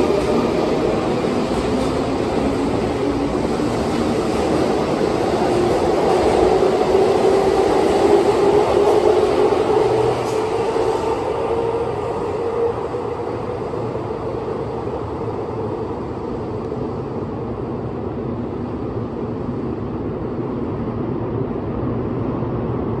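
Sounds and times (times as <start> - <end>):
electric train rumbling in tunnel: 0.0 - 23.0.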